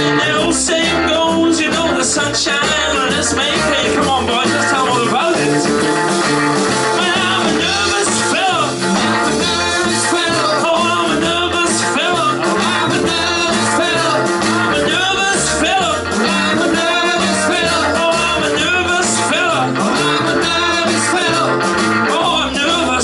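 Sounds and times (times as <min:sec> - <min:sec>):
person singing: 0:00.0 - 0:06.0, 0:06.8 - 0:23.0
bass line: 0:00.0 - 0:23.0
rock and roll band playing: 0:00.0 - 0:23.0.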